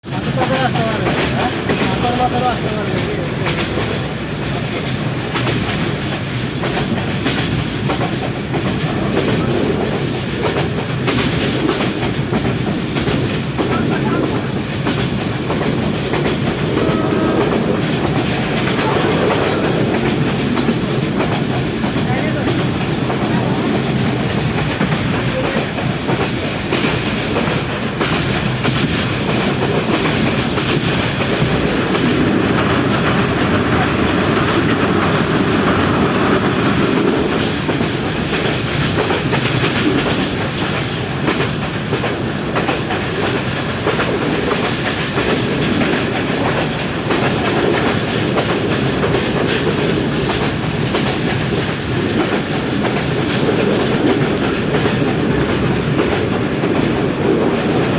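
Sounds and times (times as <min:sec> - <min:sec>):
train rail noise: 0:00.0 - 0:57.9
wheels clicking over rails: 0:00.0 - 0:57.9.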